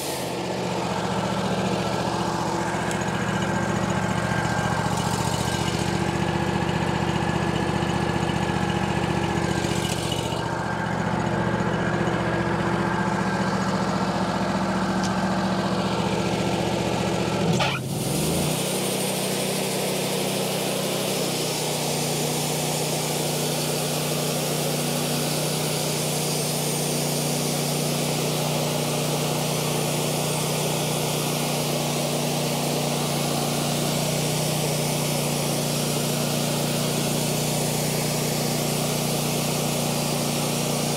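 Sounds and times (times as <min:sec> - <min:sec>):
saw cutting through wood: 0:00.0 - 0:11.3, 0:15.0 - 0:40.9
sawmill engine running: 0:00.0 - 0:40.9.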